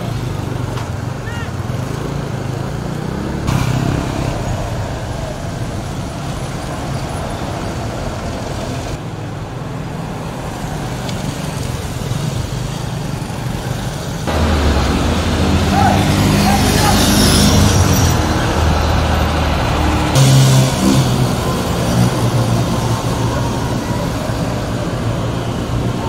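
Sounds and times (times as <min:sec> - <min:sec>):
city road traffic: 0:00.0 - 0:26.0.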